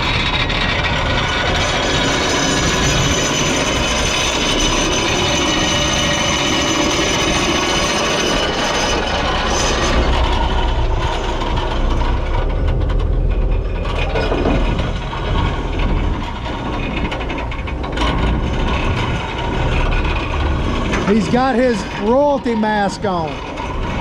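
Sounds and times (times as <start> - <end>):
anchor line rubbing and clatter: 0.0 - 24.0
boat engine running: 0.0 - 24.0.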